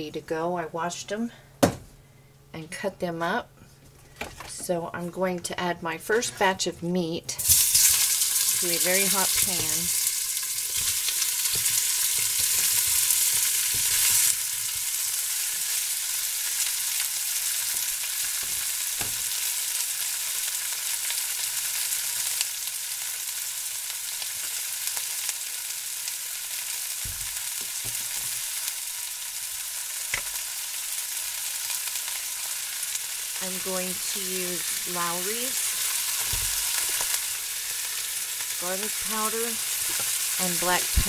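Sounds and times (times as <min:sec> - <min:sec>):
meat sizzling in a pan: 0:07.4 - 0:41.0.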